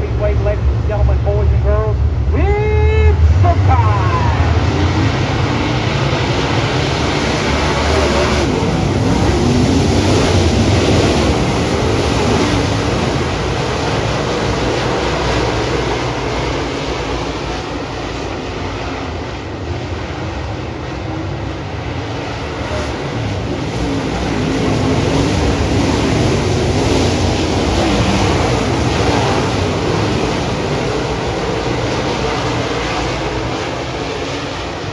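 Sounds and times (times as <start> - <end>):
race car engines droning: 0.0 - 34.9.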